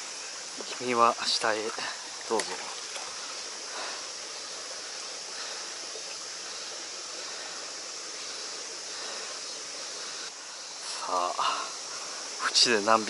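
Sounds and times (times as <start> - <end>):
stream flowing among rocks: 0.0 - 13.0.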